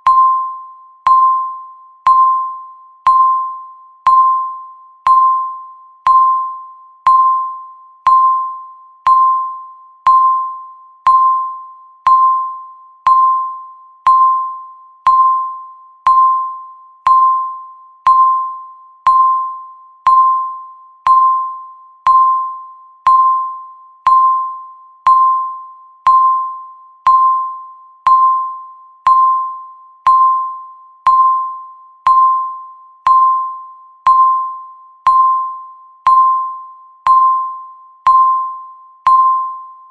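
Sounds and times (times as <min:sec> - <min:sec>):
timer ticking pings: 0:00.0 - 0:39.9.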